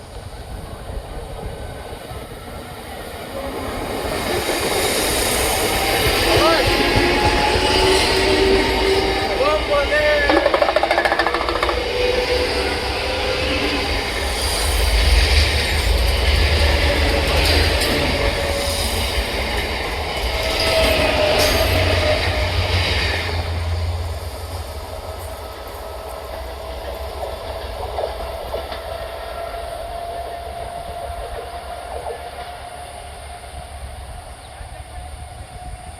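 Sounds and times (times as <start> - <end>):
train wheels rumbling and clattering: 0.0 - 35.9.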